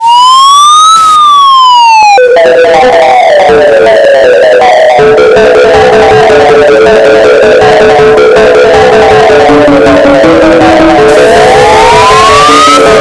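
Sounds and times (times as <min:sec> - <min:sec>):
alarm melody of falling notes: 0:00.0 - 0:13.0
rising and falling siren tone: 0:00.0 - 0:13.0.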